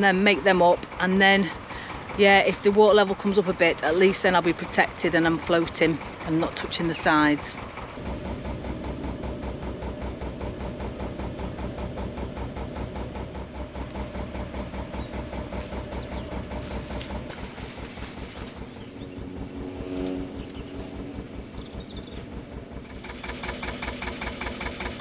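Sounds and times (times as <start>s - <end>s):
diesel engine chugging: 0.0s - 25.0s.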